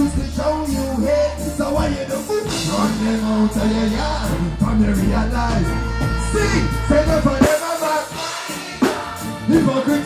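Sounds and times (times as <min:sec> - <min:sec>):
man singing into a microphone: 0:00.0 - 0:08.3, 0:09.4 - 0:10.0
live reggae band: 0:00.0 - 0:10.0.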